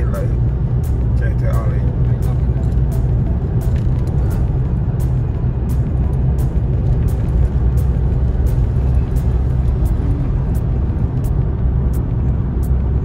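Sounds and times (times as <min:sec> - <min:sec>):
car driving on road: 0:00.0 - 0:13.0
music with ticking beat: 0:00.0 - 0:13.0.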